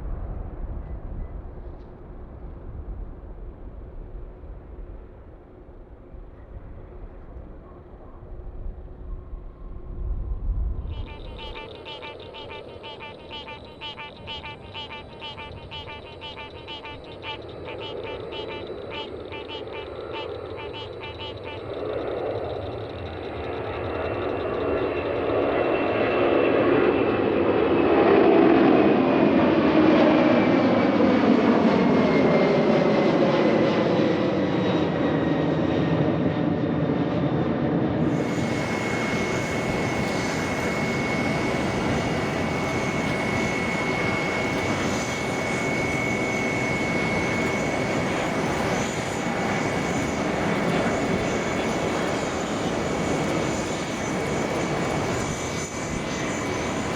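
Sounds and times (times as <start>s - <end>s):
steady jet engine whine: 0.0s - 56.9s
jet airliner engines passing: 9.0s - 56.9s.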